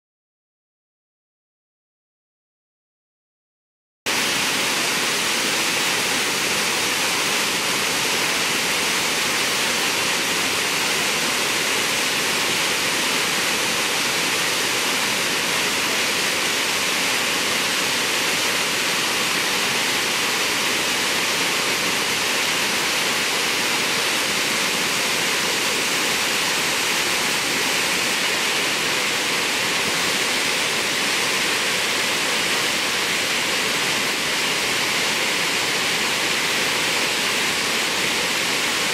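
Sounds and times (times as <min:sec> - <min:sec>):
waterfall roaring: 0:04.1 - 0:38.9.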